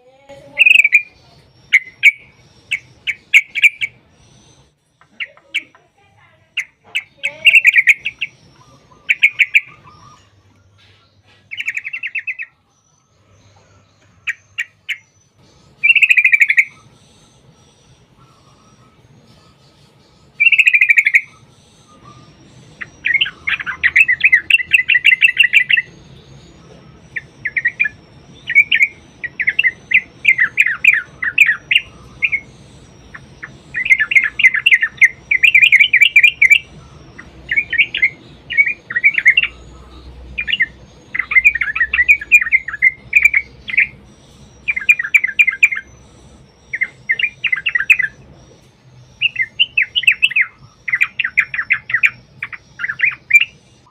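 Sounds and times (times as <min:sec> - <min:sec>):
bulbul song: 0:00.0 - 0:53.9.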